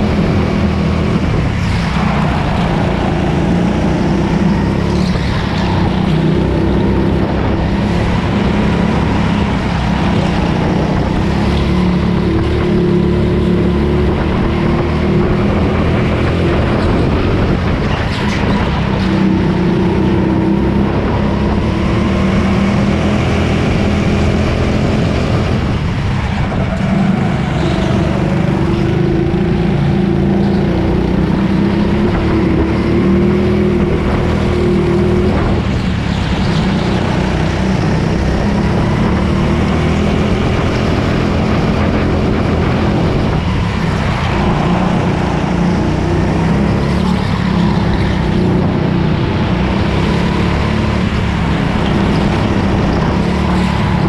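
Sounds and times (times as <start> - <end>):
go-kart engine running: 0.0 - 54.0
noisy wind rush: 0.0 - 54.0.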